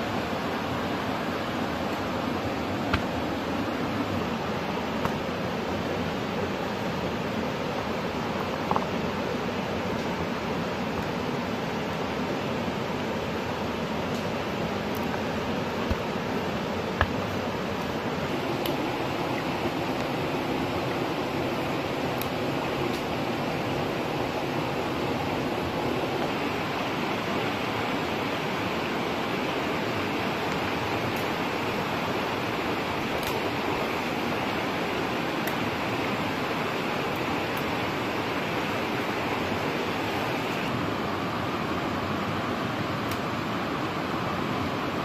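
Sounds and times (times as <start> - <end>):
stream water rushing: 0.0 - 45.0.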